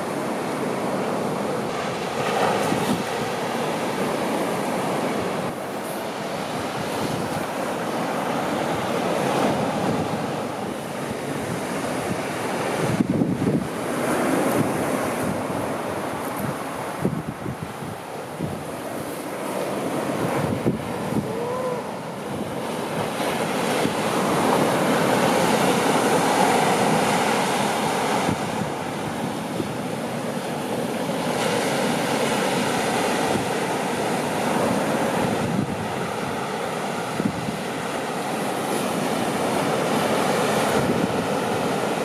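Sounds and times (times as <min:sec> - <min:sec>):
surf breaking on beach: 0:00.0 - 0:42.0.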